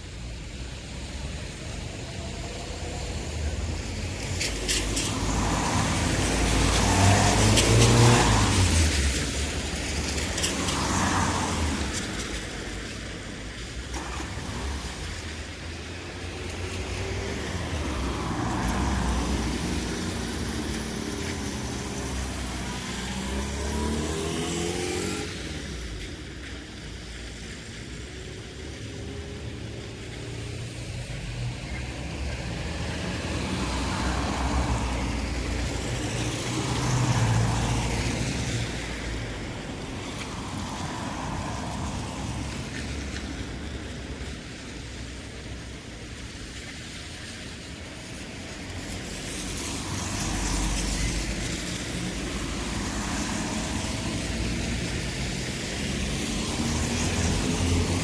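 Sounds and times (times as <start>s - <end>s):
cars passing: 0.0s - 58.0s
steady low traffic rumble: 0.0s - 58.0s.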